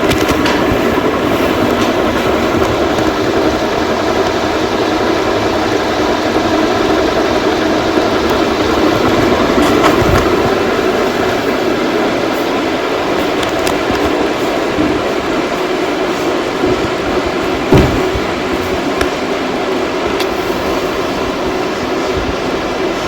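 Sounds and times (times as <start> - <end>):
ceiling fan motor running: 0.0 - 23.0.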